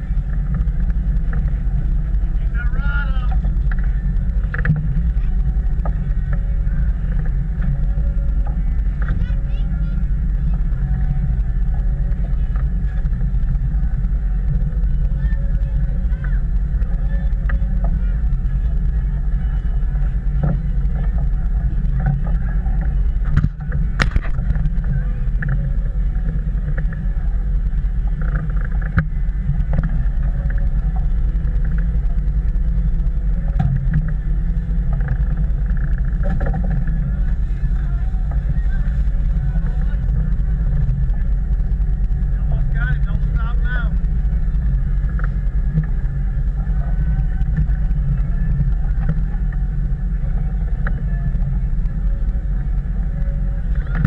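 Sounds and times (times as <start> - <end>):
boat engines droning: 0.0 - 54.0.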